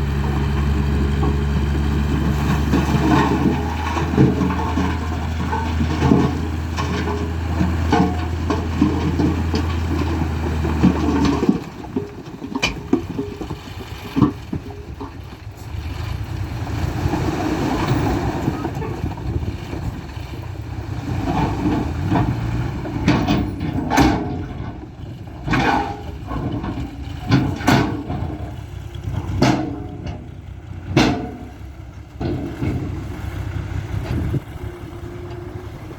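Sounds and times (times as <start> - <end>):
diesel truck engine droning: 0.0 - 35.9
rough uneven noise: 0.0 - 35.9.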